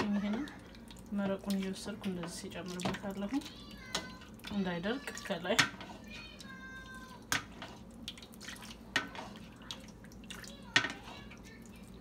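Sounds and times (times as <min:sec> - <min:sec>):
juices splashing and dripping: 0:00.0 - 0:12.0.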